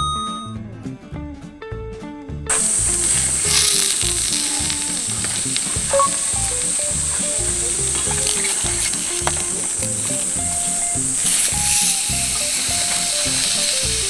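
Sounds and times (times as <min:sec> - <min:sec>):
steaks sizzling on griddle: 0:02.5 - 0:14.0.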